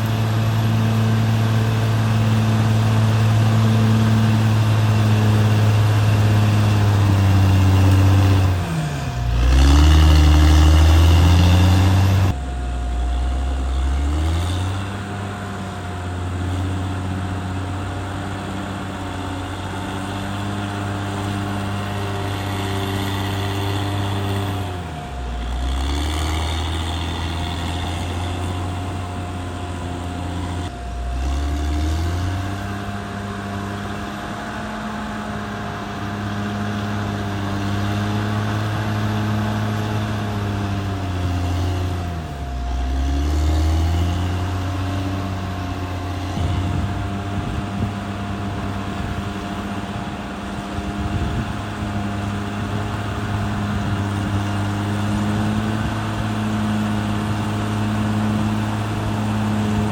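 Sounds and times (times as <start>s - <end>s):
bulldozer diesel engine revving: 0.0s - 59.9s.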